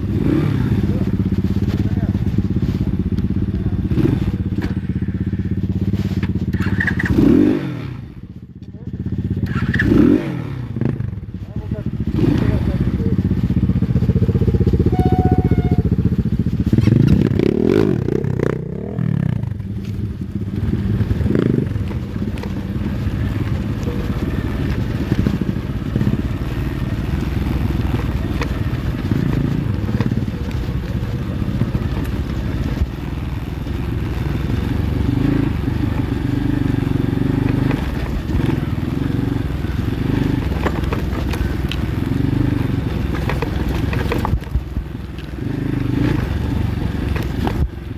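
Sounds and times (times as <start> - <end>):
bike clattering and scraping: 0.0 - 47.9
motorbike engine revving: 0.0 - 47.9.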